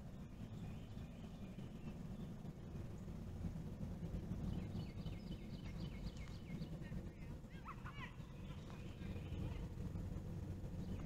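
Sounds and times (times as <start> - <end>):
bird lower arching notes: 0.0 - 11.0
low background rumble: 0.0 - 11.0.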